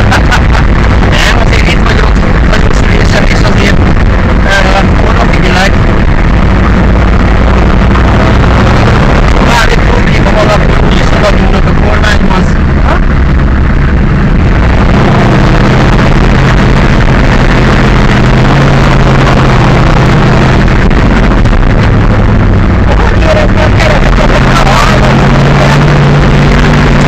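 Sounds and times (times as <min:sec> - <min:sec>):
monster truck engine: 0:00.0 - 0:27.0.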